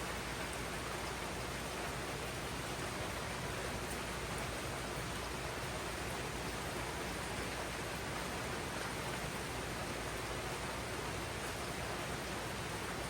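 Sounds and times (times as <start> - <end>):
rain falling on foliage: 0.0 - 13.0.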